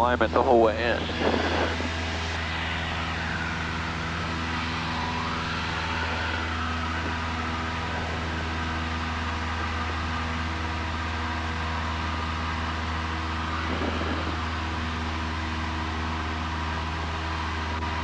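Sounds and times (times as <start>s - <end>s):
aircraft engine droning: 0.0s - 18.0s.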